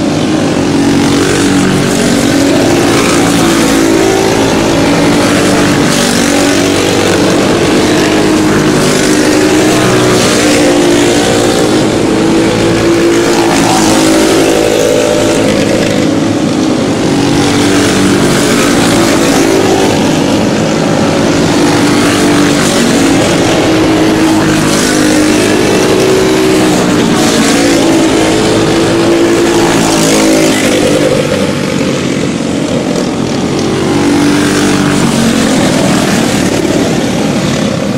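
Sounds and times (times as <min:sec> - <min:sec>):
racing kart engines: 0:00.0 - 0:37.9.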